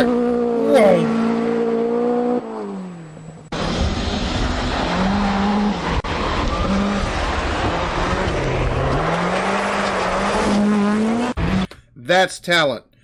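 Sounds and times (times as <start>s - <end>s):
rally car engine: 0.0s - 11.8s
tyre and road noise: 0.0s - 11.8s.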